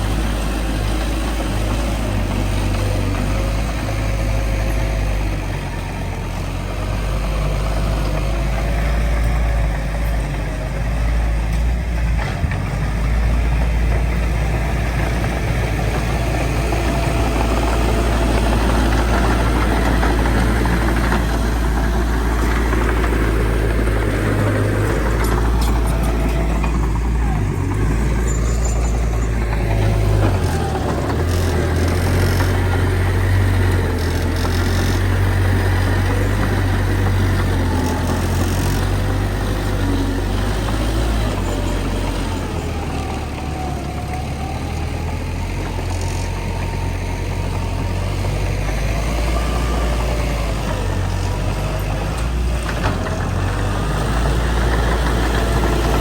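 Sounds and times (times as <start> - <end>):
heavy diesel engine rumble: 0.0 - 56.0.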